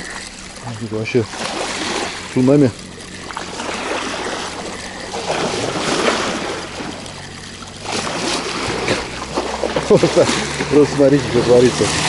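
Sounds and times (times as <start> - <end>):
waves splashing against shore: 0.0 - 12.0.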